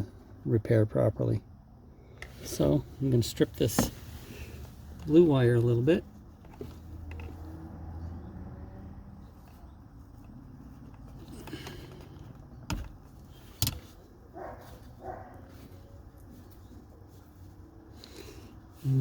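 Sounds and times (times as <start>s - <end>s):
faint handling noise: 2.1s - 7.8s, 9.1s - 18.8s.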